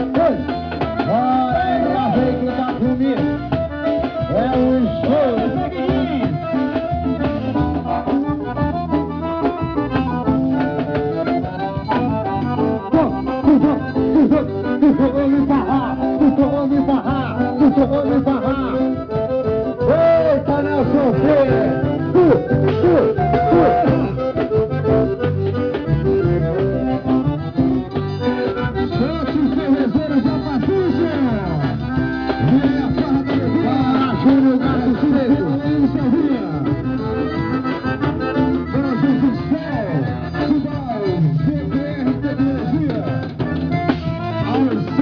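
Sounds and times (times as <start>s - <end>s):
accordion-led music with bass and drums: 0.0s - 45.0s.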